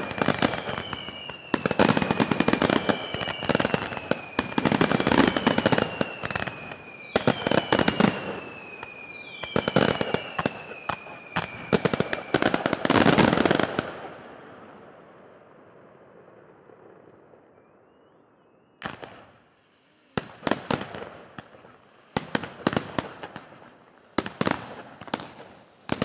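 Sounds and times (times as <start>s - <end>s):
falling firework whistles: 0.0s - 14.2s, 17.4s - 26.0s
fireworks crackling bangs: 0.0s - 26.0s.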